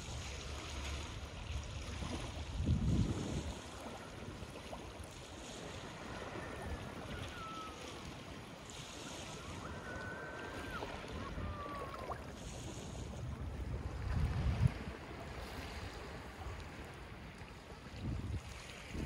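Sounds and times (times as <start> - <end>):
waves lapping against concrete steps: 0.0 - 19.0
wind buffeting microphone: 1.7 - 19.0.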